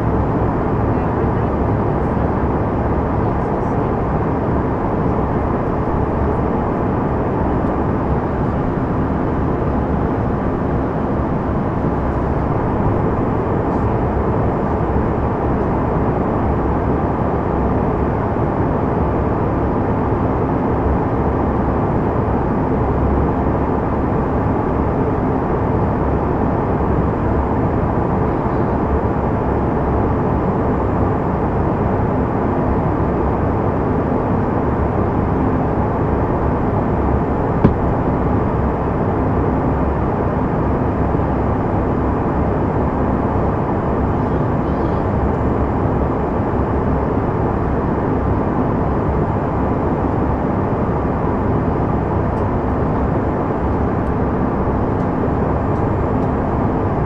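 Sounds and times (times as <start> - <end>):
faint steady hum: 0.0 - 57.0
jet cabin airflow rush: 0.0 - 57.0
jet engines: 0.0 - 57.0.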